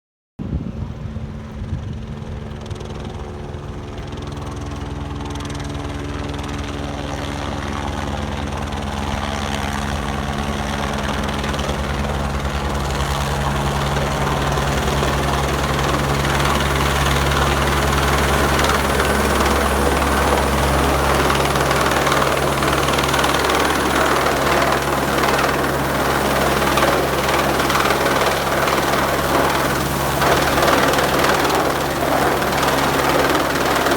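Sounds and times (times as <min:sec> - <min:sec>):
helicopter rotor and engine: 0:00.8 - 0:33.9.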